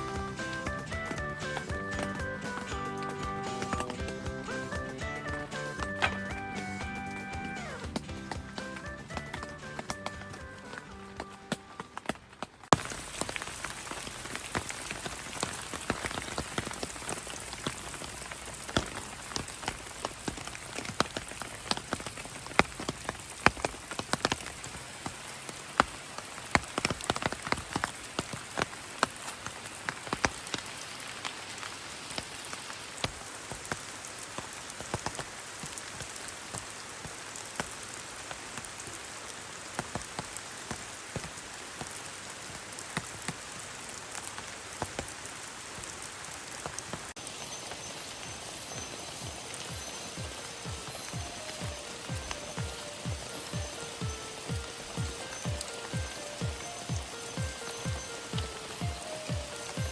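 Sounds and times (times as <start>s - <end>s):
rain with sharp drop hits: 0.0s - 59.9s.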